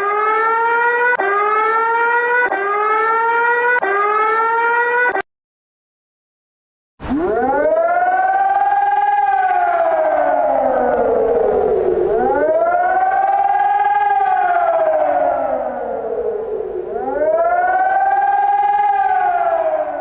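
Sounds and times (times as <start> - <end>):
siren wailing: 0.0 - 5.2, 7.0 - 20.0.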